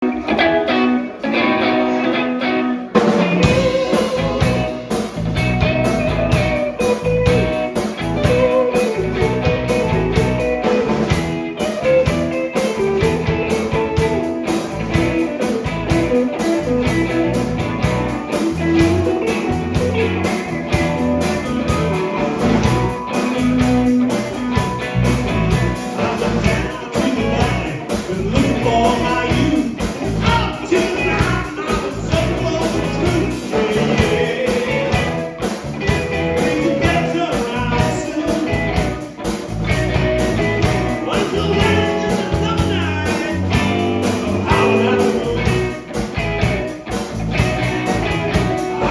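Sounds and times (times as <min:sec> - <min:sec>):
blues-rock band playing: 0:00.0 - 0:48.9
steady drum beat: 0:03.0 - 0:48.9.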